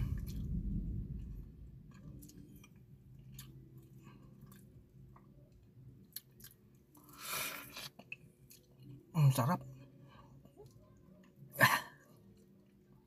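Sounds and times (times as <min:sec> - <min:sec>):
chewing crispy fried chicken: 0:00.0 - 0:13.0
low steady hum: 0:00.0 - 0:13.0.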